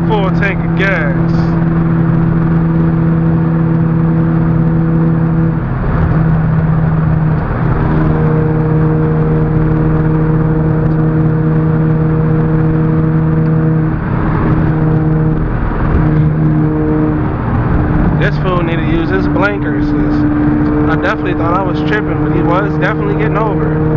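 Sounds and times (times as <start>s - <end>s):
car engine running: 0.0s - 23.9s
tyre and road noise: 0.0s - 23.9s.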